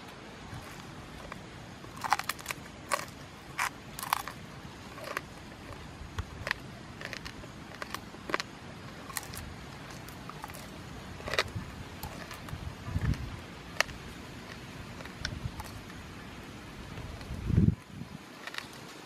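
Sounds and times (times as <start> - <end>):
crunchy chewing: 0.5 - 19.0.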